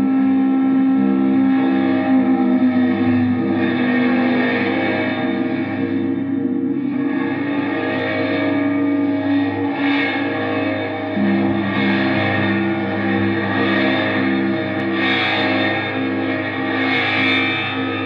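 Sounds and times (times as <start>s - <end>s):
droning distorted electric guitars: 0.0s - 18.0s.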